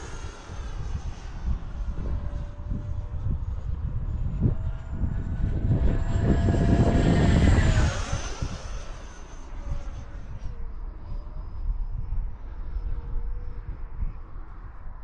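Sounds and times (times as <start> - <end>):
electric ducted fan whining: 0.0 - 15.0
wind buffeting microphone: 0.0 - 15.0.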